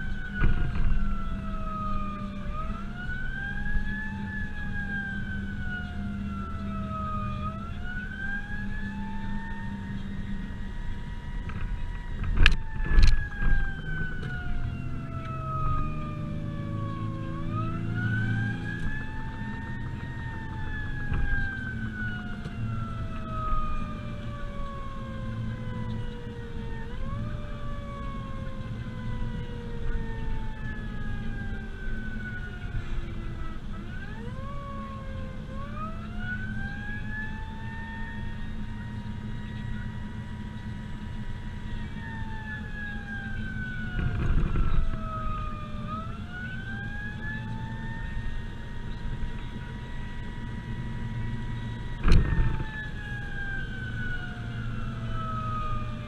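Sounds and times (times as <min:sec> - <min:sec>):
engine and road noise: 0:00.0 - 0:56.0
fire truck siren wailing: 0:00.0 - 0:56.0.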